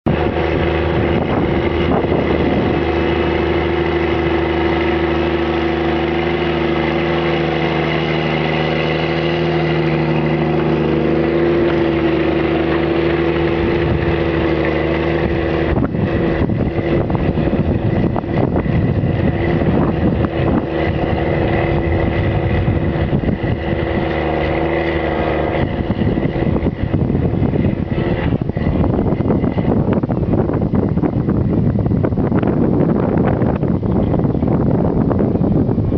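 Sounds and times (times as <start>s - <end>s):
tractor diesel engine under load: 0.0s - 35.9s
rough uneven noise: 0.1s - 33.8s.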